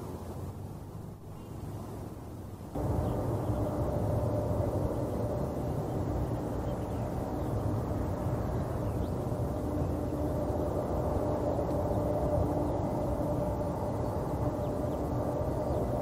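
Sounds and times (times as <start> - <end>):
jet engines rumbling: 2.7 - 16.0.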